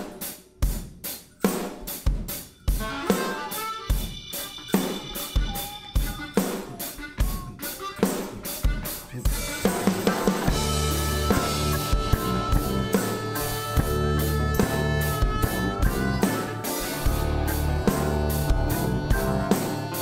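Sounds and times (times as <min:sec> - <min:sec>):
instrumental music with drum kit: 0:00.0 - 0:20.0.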